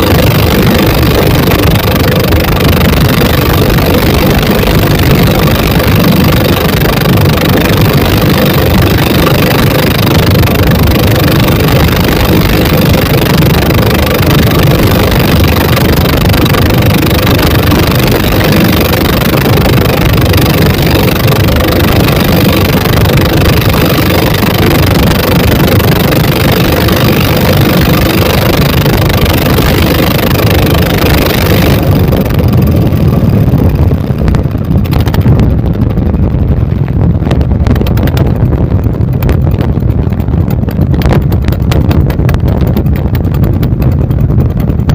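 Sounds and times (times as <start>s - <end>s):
diesel boat engines running hard: 0.0s - 44.9s.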